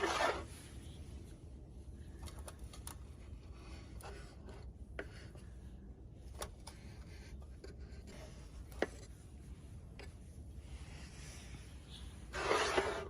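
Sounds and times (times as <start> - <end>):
steady low rumble: 0.5 - 12.3.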